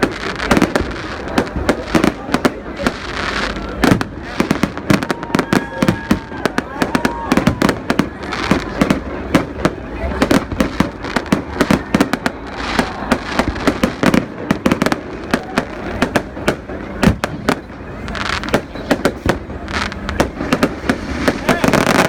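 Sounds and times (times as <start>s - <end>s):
fireworks bangs and crackles: 0.0s - 22.0s
people's voices: 0.0s - 22.0s.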